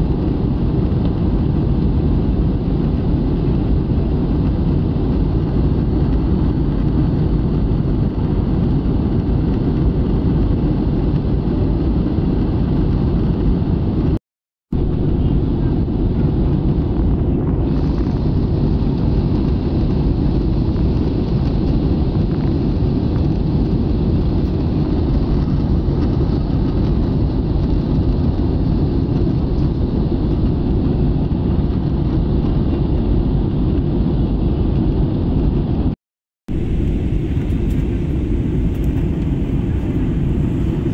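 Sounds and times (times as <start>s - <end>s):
jet engine roar in cabin: 0.0s - 40.9s.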